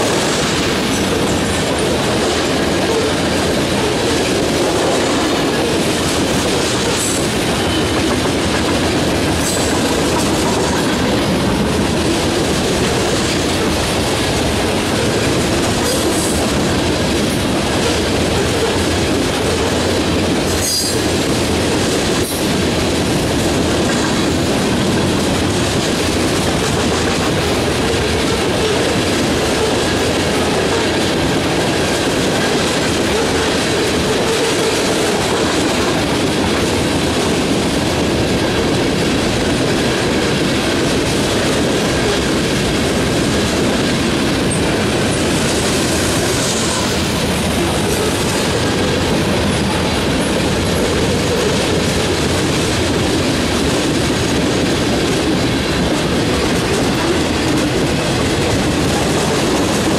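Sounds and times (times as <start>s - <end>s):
clickety-clack over rail joints: 0.0s - 59.9s
train wheels rumbling on rail: 0.0s - 59.9s.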